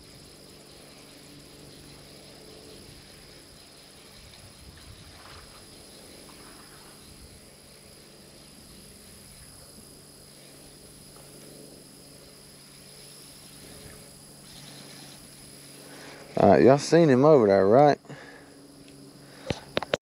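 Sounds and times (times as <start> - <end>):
high-pitched insect trill: 0.0 - 20.0
light wind rumble: 0.0 - 20.0.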